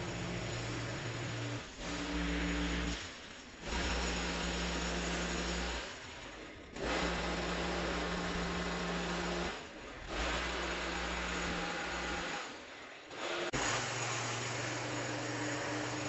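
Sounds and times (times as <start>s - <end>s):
garden power tool running: 0.0s - 6.0s, 6.7s - 16.0s.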